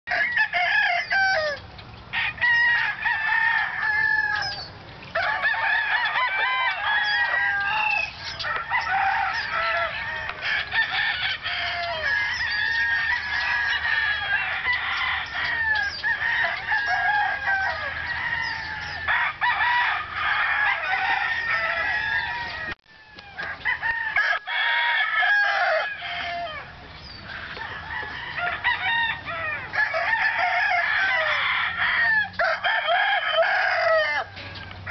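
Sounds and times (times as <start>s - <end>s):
chickens clucking: 0.1s - 24.6s, 25.2s - 34.9s
roosters crowing: 0.1s - 34.9s.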